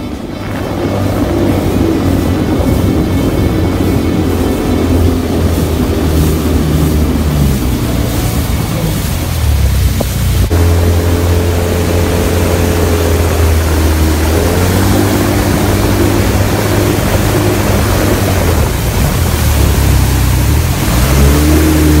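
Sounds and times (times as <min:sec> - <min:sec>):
jet wake rushing and spraying: 0:00.0 - 0:22.0
watercraft engine drone: 0:00.0 - 0:22.0.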